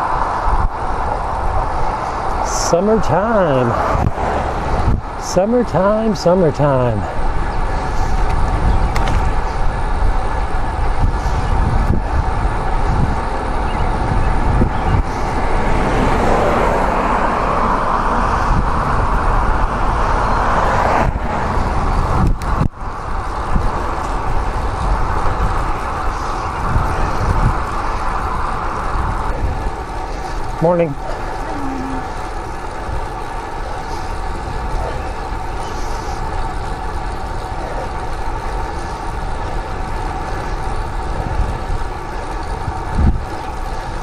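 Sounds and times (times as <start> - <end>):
vehicle passing: 0.0 - 8.6, 12.2 - 44.0
wind rushing on microphone: 0.0 - 38.2, 38.9 - 44.0.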